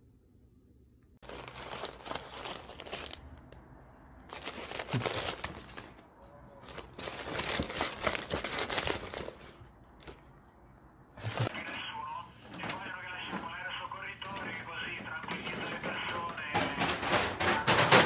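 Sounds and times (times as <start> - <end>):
foil packets crinkling: 1.2 - 3.6, 4.2 - 10.3, 11.2 - 18.0.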